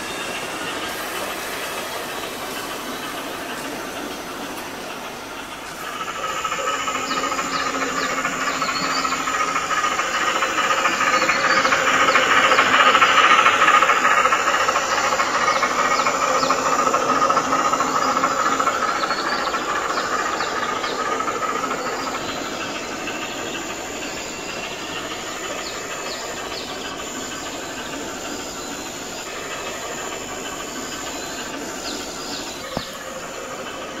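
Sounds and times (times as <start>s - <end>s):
steam train passing: 0.0s - 34.0s.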